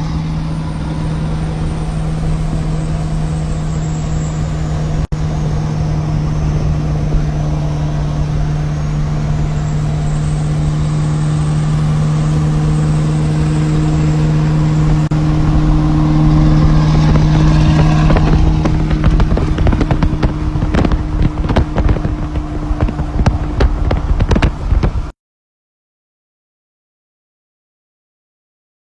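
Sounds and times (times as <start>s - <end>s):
truck engine running: 0.0s - 25.1s.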